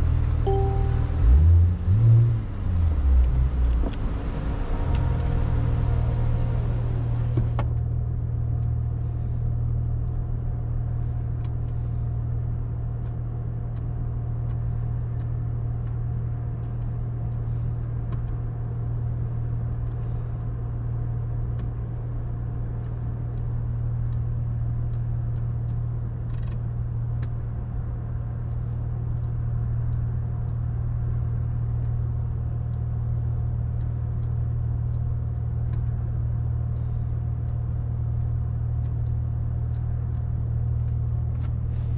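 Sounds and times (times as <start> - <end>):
road and engine drone in car: 0.0 - 41.9.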